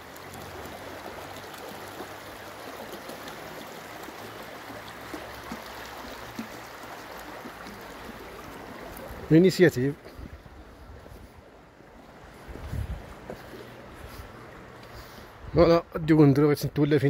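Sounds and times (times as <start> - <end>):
river rushing over stones: 0.0 - 15.5.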